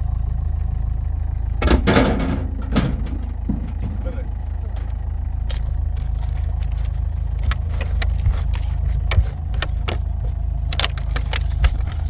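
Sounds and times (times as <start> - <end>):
motor vehicle low drone: 0.0 - 12.0
short rattles and clicks: 1.6 - 12.0.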